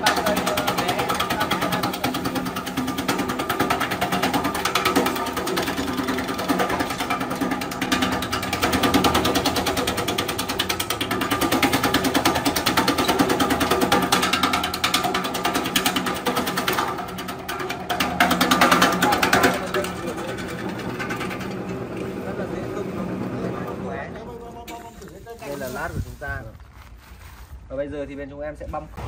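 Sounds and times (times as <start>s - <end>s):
slicing machine rapid clicking: 0.0s - 23.8s.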